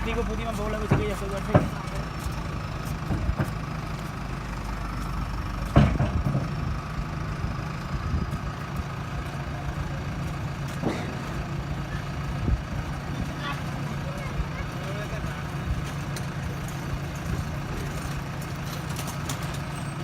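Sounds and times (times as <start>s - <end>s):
diesel engine running at low revs: 0.0s - 20.0s.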